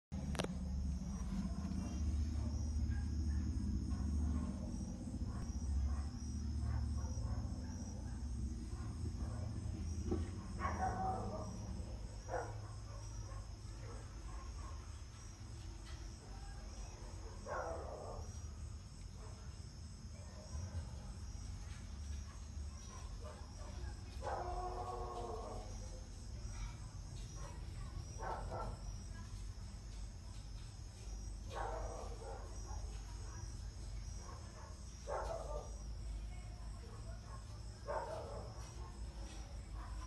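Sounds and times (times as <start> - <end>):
crickets chirping: 0.2 - 40.0.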